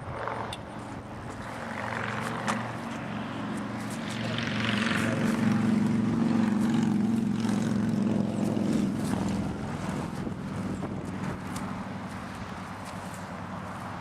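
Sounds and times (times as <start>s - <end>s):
aircraft engine humming: 0.0s - 14.0s.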